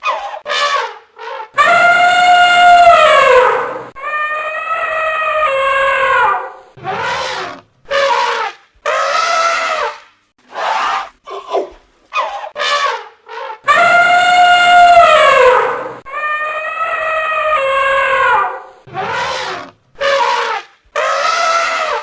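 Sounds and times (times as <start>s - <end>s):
elephant trumpeting and squealing: 0.0s - 22.0s.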